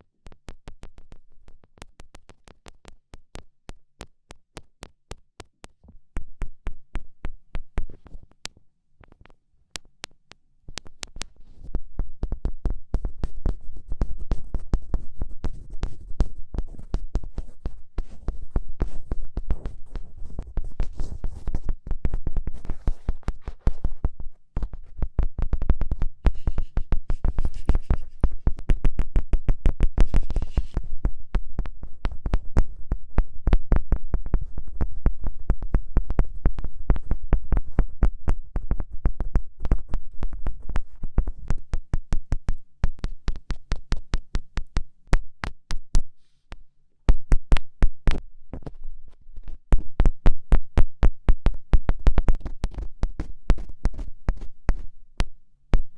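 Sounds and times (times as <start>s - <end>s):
fingertip taps on microphone: 0.3s - 48.8s, 49.4s - 55.9s.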